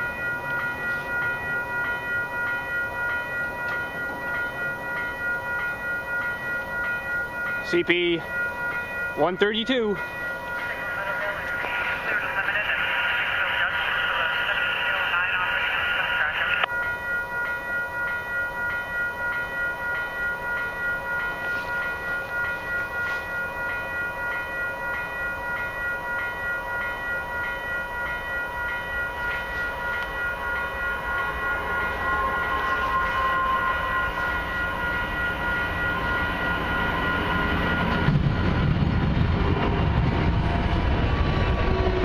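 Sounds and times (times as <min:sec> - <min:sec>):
level crossing bell ringing: 0:00.0 - 0:38.6
approaching train: 0:00.0 - 0:42.0.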